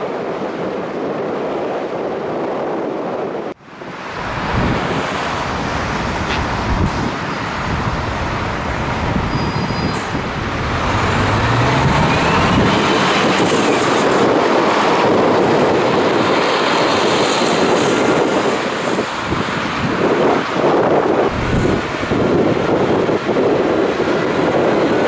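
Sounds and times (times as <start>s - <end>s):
road noise: 0.0s - 25.0s
truck engine accelerating: 3.8s - 25.0s.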